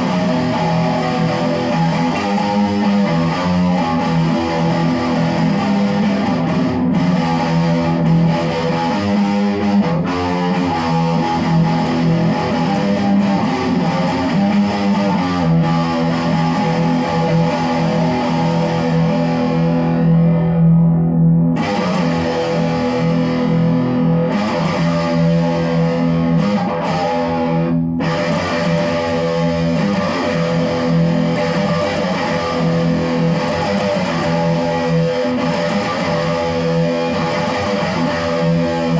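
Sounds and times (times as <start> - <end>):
electric guitar with effects: 0.0 - 38.9.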